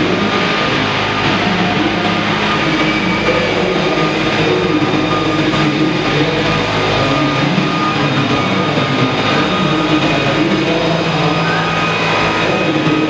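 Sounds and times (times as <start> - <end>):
model helicopter hovering: 0.0 - 13.0
whining motor tones: 0.0 - 13.0.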